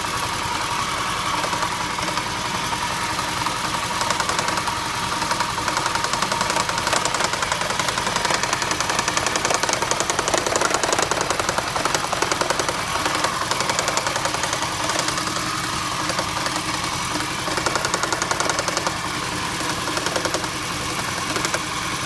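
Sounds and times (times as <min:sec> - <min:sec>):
car engine knocking: 0:00.1 - 0:22.0.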